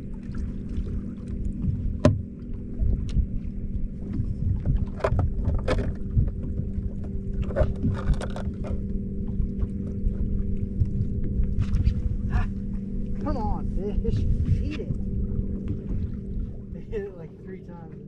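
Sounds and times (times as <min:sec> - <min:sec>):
hull rumbling on water: 0:00.0 - 0:18.0
hull slapping waves: 0:00.0 - 0:18.0
outboard motor droning: 0:00.0 - 0:18.0.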